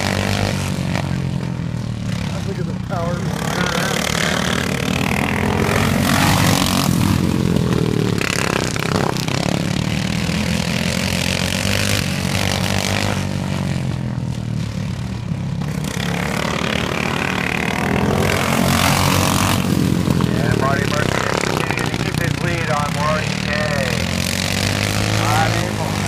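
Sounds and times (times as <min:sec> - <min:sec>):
racing lawn mower engines: 0:00.0 - 0:26.0.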